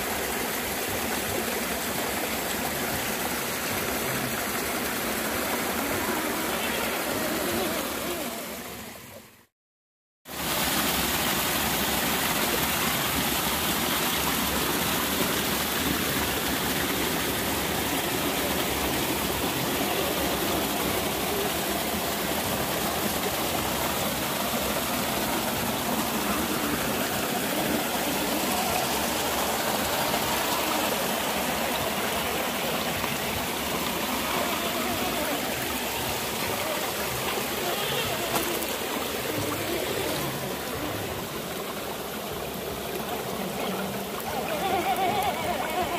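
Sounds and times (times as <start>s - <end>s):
flowing water rushing: 0.0s - 9.5s, 10.3s - 45.9s.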